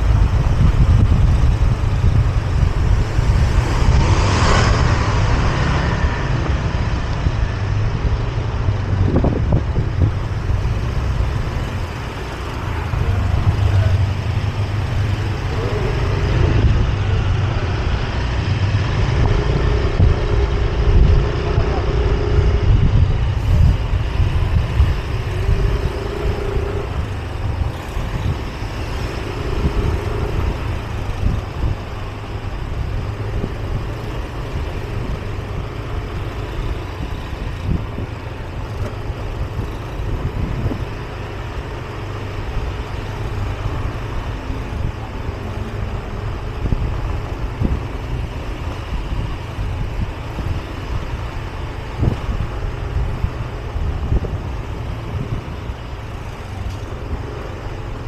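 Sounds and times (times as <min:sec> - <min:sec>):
scooter engine rumble: 0:00.0 - 0:58.0
wind on microphone: 0:00.0 - 0:58.0.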